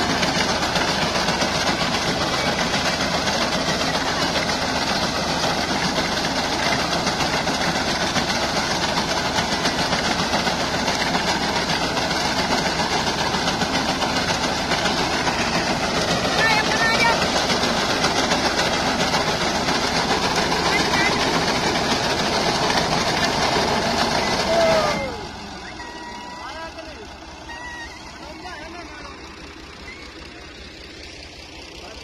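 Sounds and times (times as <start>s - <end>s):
tractor engine and cutter bar din: 0.0s - 32.0s.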